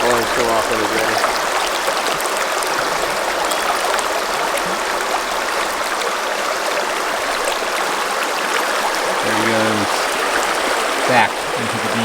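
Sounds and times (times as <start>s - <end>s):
river water running over rocks: 0.0s - 12.0s.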